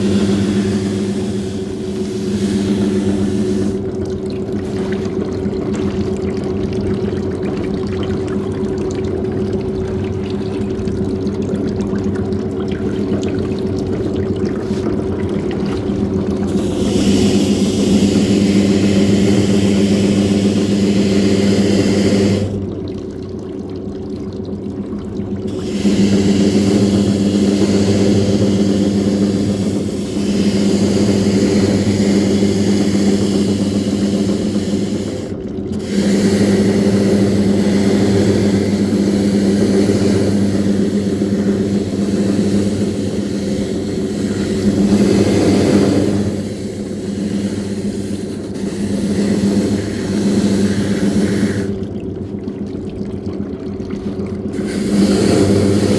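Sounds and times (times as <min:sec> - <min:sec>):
churning water: 0:00.0 - 0:55.9
washing machine motor hum: 0:00.0 - 0:55.9.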